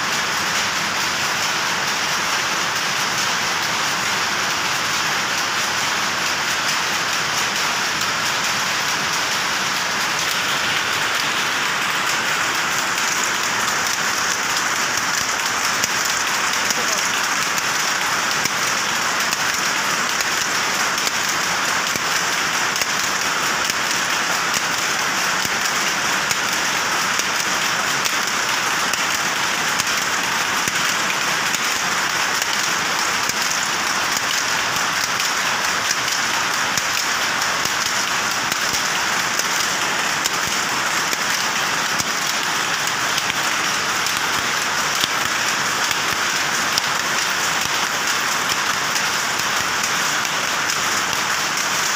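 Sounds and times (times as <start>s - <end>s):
loom rapid mechanical clatter: 0.0s - 51.9s.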